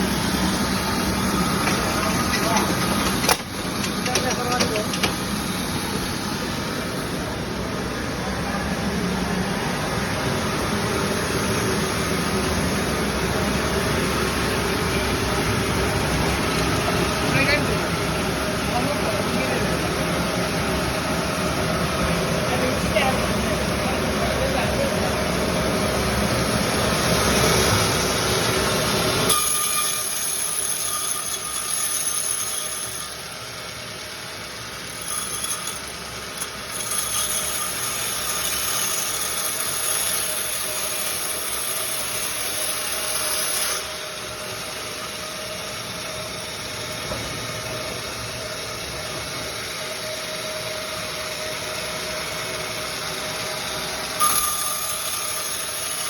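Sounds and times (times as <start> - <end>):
high machine whine: 0.0 - 56.0
sawmill machinery running: 0.0 - 56.0.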